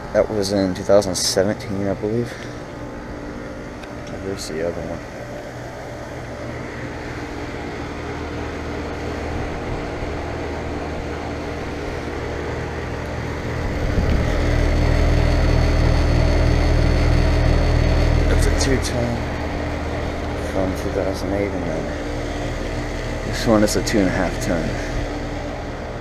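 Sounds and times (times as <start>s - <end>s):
air conditioner compressor and fan hum: 0.0s - 26.0s.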